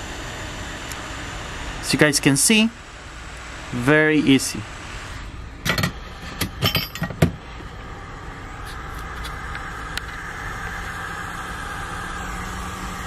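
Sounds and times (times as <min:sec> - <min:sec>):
hot-air gun hissing: 0:00.0 - 0:13.0.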